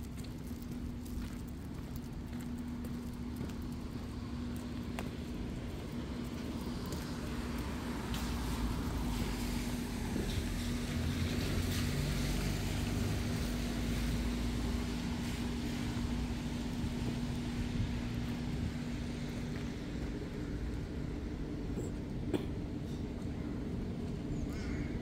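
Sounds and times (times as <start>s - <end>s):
constant low hum: 0.0s - 25.0s
traffic rumble: 0.0s - 25.0s.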